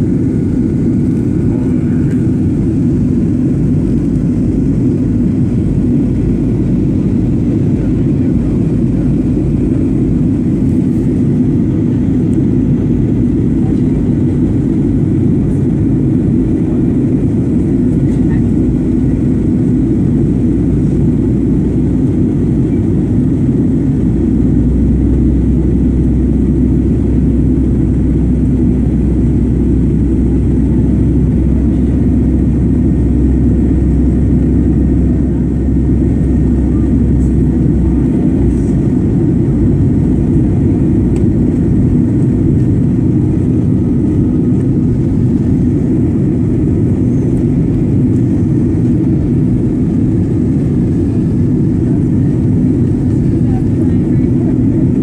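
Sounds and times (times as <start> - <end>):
deep rumble: 0.0 - 55.0
jet engine and airflow roar: 0.0 - 55.0.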